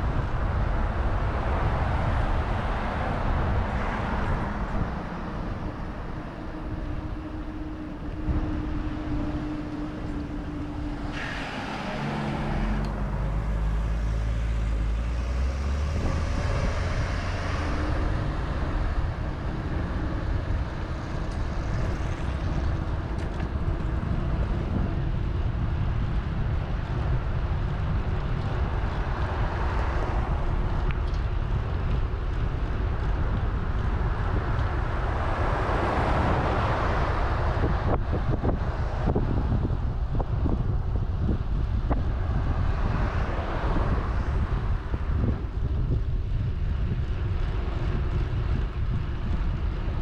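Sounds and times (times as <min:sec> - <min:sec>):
road noise: 0:00.0 - 0:50.0
wind rumbling on microphone: 0:00.0 - 0:50.0.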